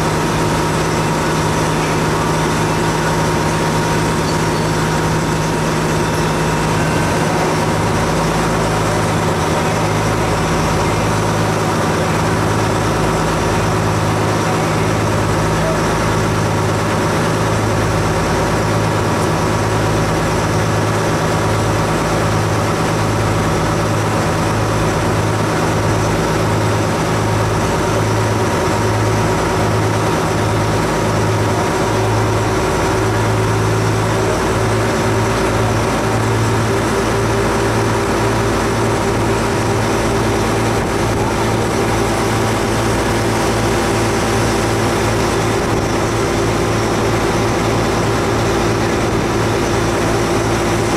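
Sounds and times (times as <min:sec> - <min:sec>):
ferry engine droning: 0:00.0 - 0:50.9.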